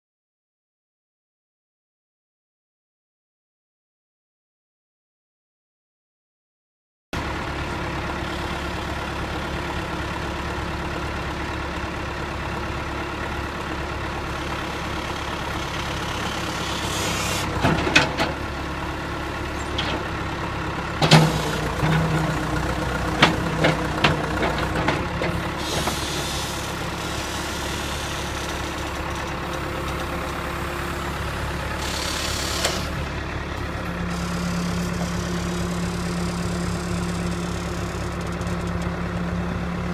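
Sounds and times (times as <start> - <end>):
diesel engine running: 7.2 - 39.9.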